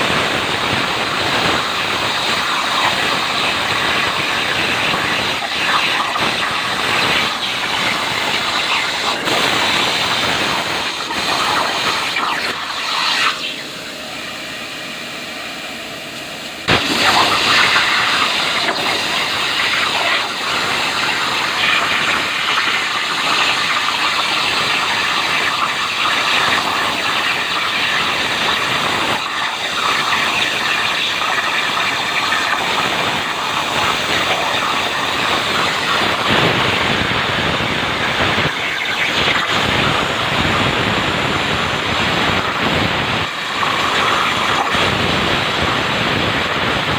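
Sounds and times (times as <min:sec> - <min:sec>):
plasma cutter hissing: 0:00.0 - 0:14.0, 0:16.6 - 0:46.9
plasma torch cutting hiss: 0:00.0 - 0:14.6, 0:16.6 - 0:46.9.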